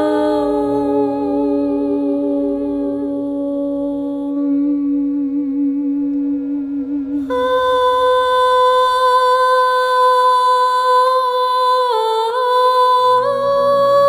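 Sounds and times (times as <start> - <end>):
woman singing long notes: 0.0 - 14.0.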